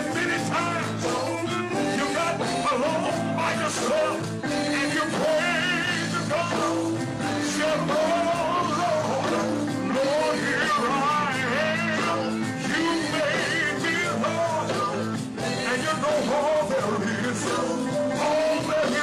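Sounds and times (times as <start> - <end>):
person singing gospel with vibrato: 0.0 - 19.0
sustained instrumental chords: 0.0 - 19.0.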